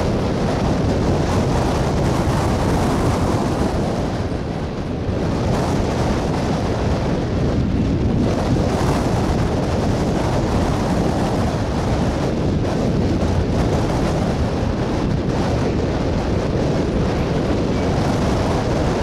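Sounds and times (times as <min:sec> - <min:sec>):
freight train wheels rumbling on rail: 0:00.0 - 0:19.0.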